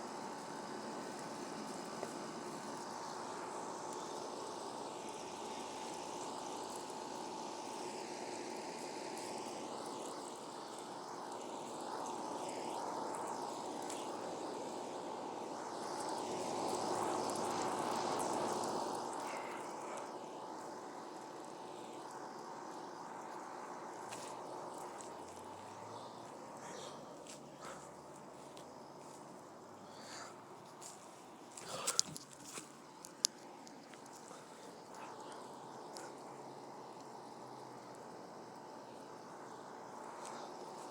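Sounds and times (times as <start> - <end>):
air conditioner fan rush: 0.0 - 40.9.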